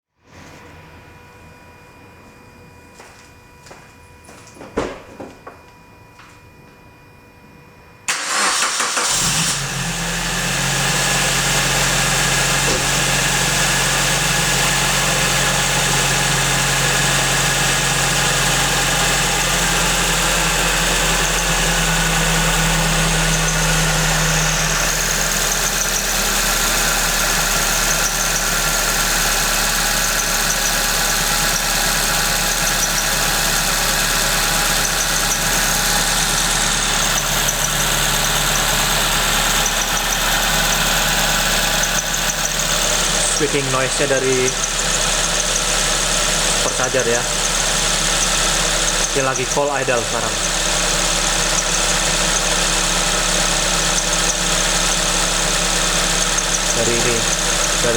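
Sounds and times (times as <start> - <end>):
car engine starting and idling: 8.1 - 57.9.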